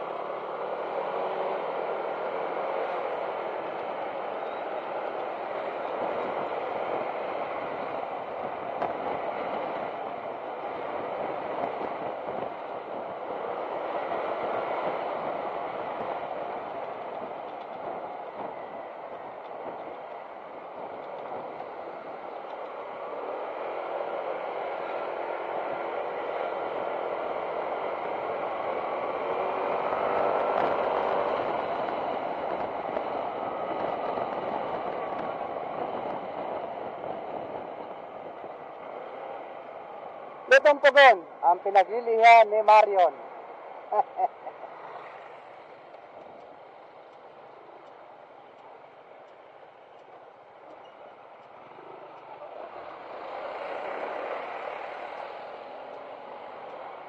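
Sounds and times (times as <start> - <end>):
motorcycle riding at low speed: 0.0 - 57.0.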